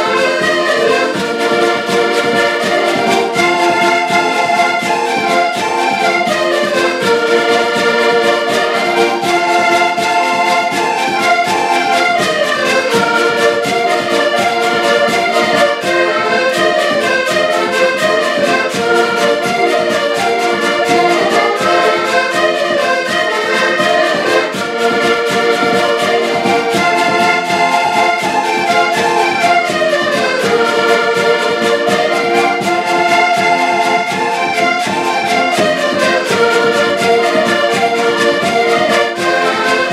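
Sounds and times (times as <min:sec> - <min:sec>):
button accordions playing folk tune: 0:00.0 - 0:39.9.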